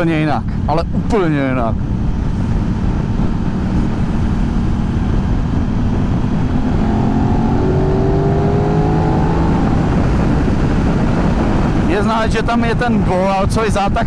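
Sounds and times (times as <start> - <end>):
motorcycle engine accelerating: 0.0 - 11.9
wind rush on microphone: 0.0 - 14.0.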